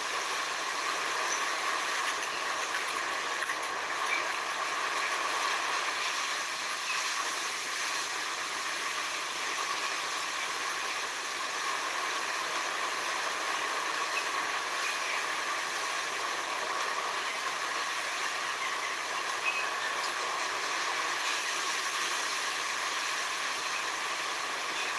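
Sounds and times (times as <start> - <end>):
nature ambience hiss: 0.0 - 24.9.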